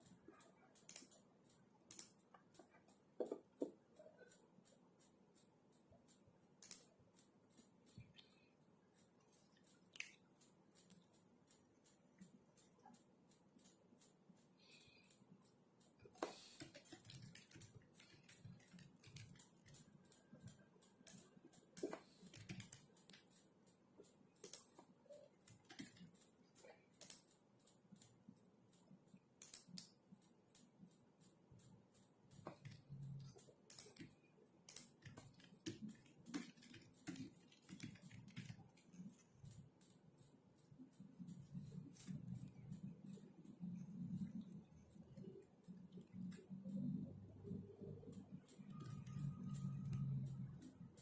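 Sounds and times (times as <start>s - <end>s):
faint typing on keyboard: 0.0s - 51.0s.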